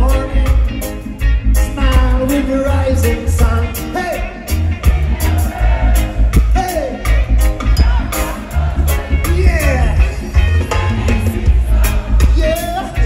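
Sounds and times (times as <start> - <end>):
person singing lead vocal: 0.0 - 0.9, 1.6 - 10.3, 11.2 - 13.0
deep pulsing bass line: 0.0 - 13.0
steady drums: 0.0 - 13.0.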